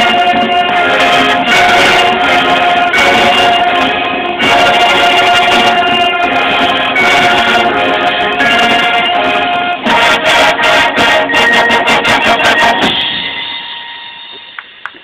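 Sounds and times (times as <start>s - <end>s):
marching band brass chords: 0.0s - 14.8s
accented hits with percussion: 0.0s - 15.0s.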